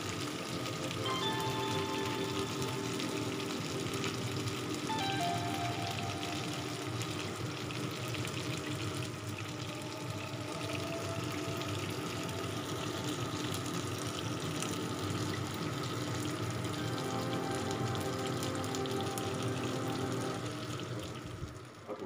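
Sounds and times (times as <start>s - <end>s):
chicken sizzling in hot oil: 0.0s - 21.9s.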